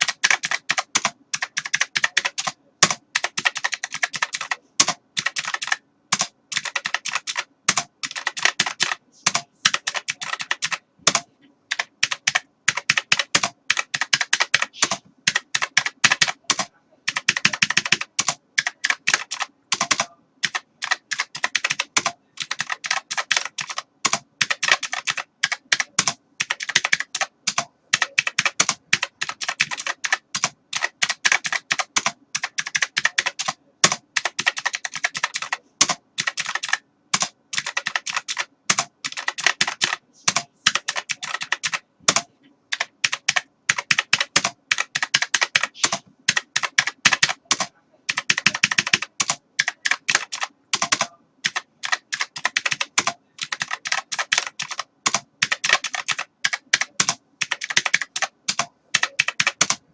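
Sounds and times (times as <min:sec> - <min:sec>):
typing on computer keyboard: 0:00.0 - 0:59.9.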